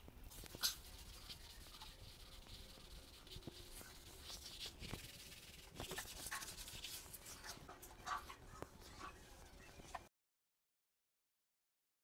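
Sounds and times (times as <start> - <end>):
cloth wiping ceramic tiles: 0.3 - 10.0.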